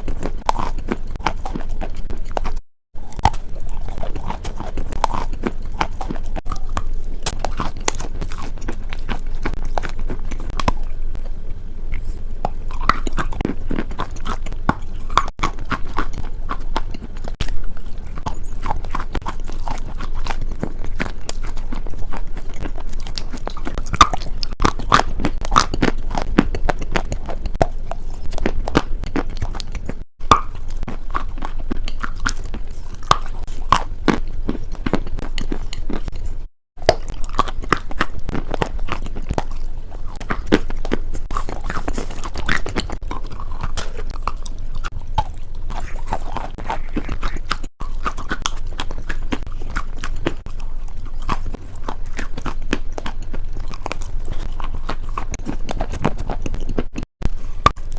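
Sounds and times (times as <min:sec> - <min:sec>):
crunchy food chewing: 0:00.0 - 0:57.9.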